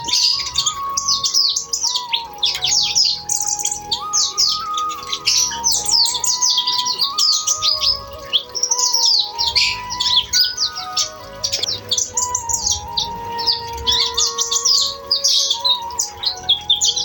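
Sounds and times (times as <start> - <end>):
sunbird twittering song: 0.0 - 17.0.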